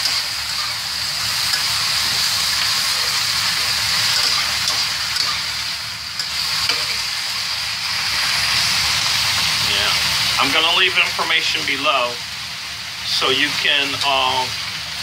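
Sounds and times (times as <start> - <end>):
greens sizzling in a wok: 0.0 - 15.0.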